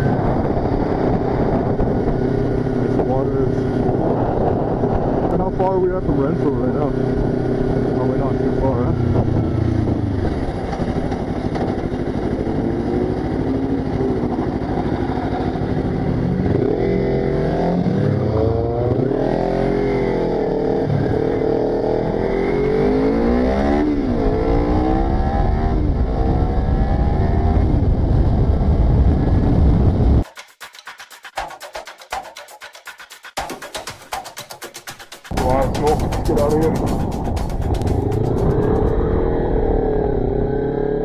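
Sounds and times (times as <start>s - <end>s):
motorcycle engine revving: 0.0s - 30.2s, 35.3s - 41.0s.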